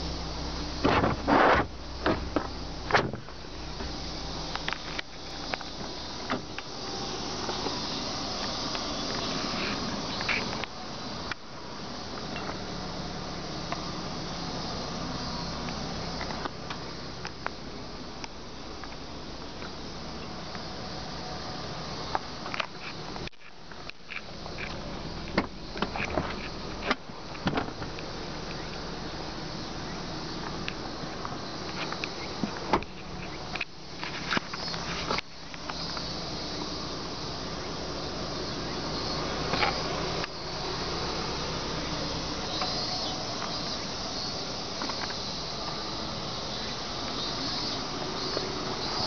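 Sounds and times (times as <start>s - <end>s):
low cabin hum: 0.0s - 49.0s
steady hissing: 0.0s - 49.0s.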